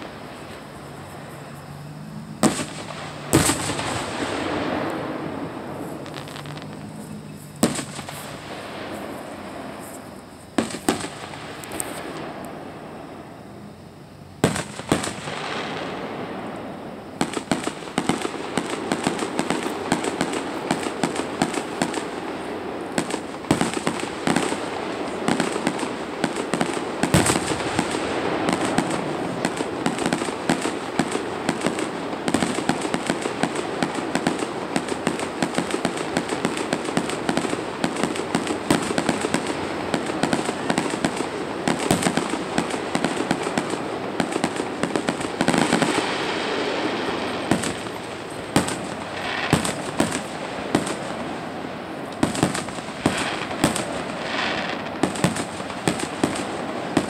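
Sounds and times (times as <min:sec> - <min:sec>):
firework shells bursting: 0:00.0 - 0:12.5, 0:17.2 - 0:57.0.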